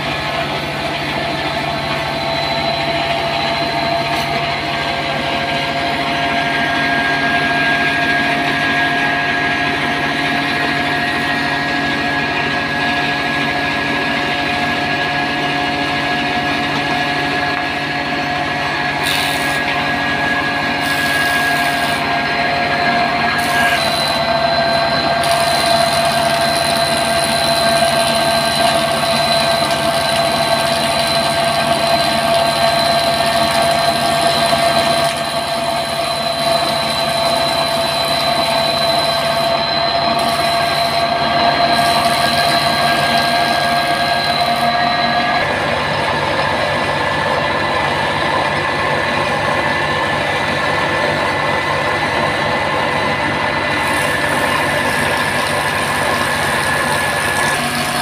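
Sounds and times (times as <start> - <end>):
small engine drone: 0.0 - 58.0
wood planer whining: 0.0 - 58.0.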